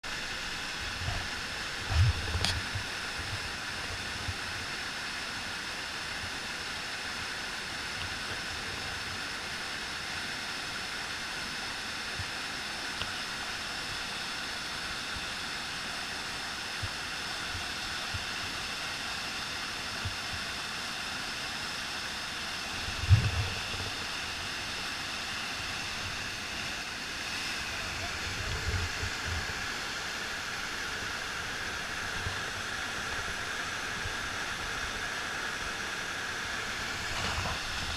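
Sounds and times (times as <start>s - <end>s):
whitewater rushing at waterfall: 0.1s - 37.9s.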